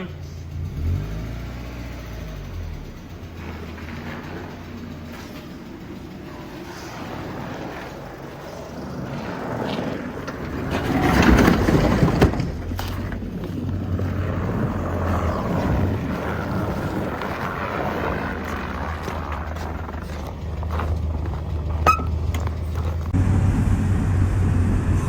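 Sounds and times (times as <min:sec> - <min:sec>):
car engine revving and running: 0:00.0 - 0:25.0.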